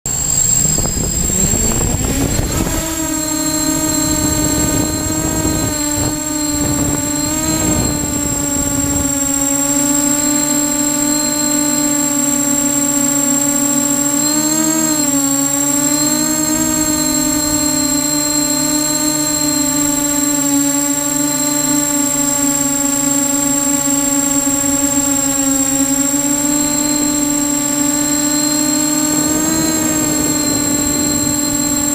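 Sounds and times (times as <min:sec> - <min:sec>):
drone motors whining: 0:00.1 - 0:31.9
steady high whistle: 0:00.1 - 0:31.9.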